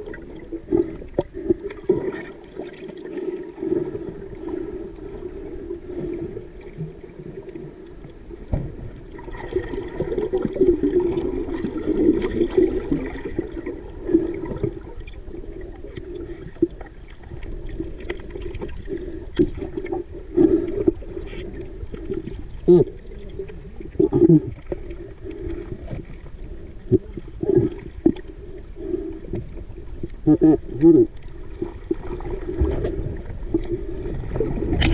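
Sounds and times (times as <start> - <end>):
underwater sloshing and gurgling: 0.0 - 34.9.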